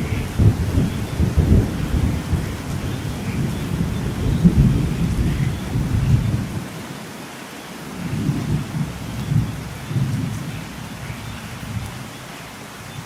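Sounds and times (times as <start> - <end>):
thunder rumbling: 0.0 - 6.8, 7.9 - 12.8
rain hissing: 0.0 - 13.0.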